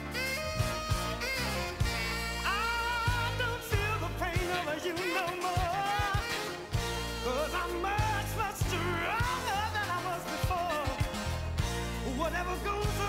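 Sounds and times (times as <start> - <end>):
soul record playing: 0.0 - 13.0.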